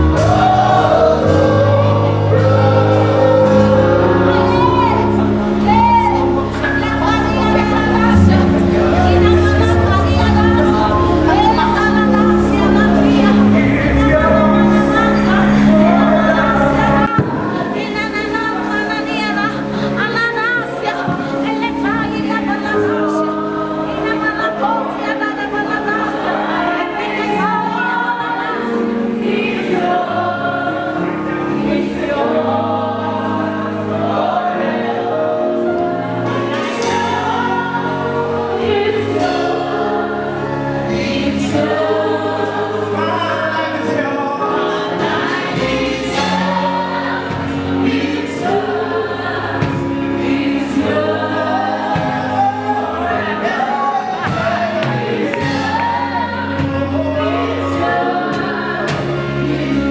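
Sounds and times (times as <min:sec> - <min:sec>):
choir singing gospel song: 0:00.0 - 0:59.9
instrumental accompaniment: 0:00.0 - 0:59.9.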